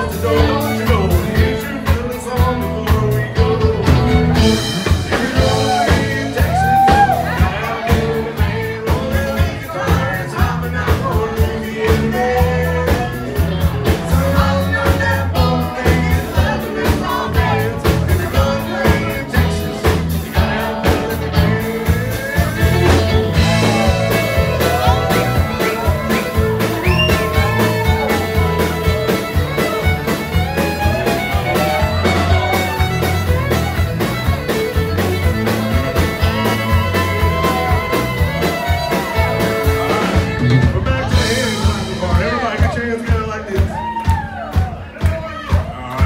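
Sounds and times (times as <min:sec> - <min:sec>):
electric guitars: 0:00.0 - 0:42.8
fiddle melody: 0:00.0 - 0:42.8
bass: 0:00.0 - 0:46.0
steady drum beat: 0:00.0 - 0:46.0.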